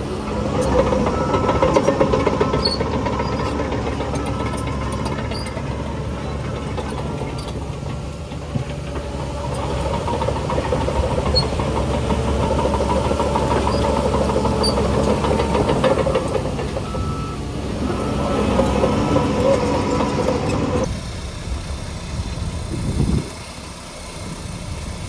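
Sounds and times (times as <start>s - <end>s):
heavy diesel engine under load: 0.0s - 25.0s.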